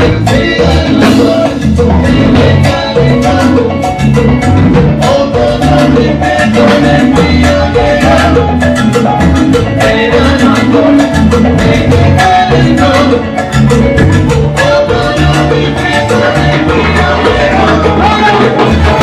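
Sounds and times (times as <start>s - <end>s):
salsa band playing: 0.0s - 19.0s.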